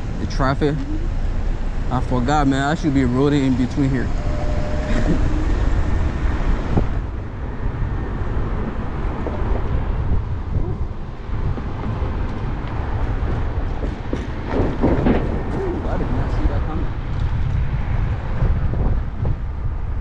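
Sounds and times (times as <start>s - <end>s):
road and traffic noise: 0.0s - 20.0s
wind rumbling on microphone: 0.0s - 20.0s.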